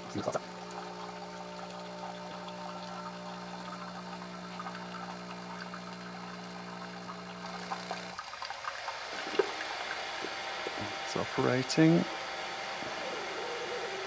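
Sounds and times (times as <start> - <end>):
coffee maker electrical hum: 0.0 - 14.0
faint water sounds: 0.0 - 14.0.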